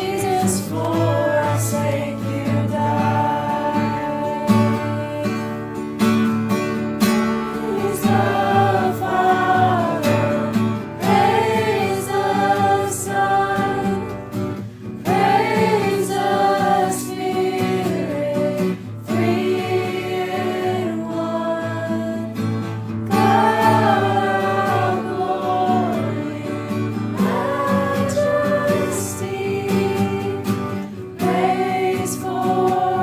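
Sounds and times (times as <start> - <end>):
choir singing in harmony: 0.0 - 5.8, 7.1 - 33.0
guitar accompaniment: 0.0 - 33.0.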